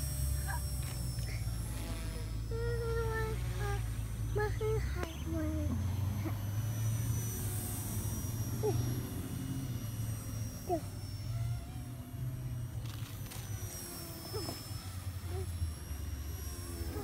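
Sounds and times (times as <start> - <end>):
model aircraft motor whine: 0.0 - 17.0.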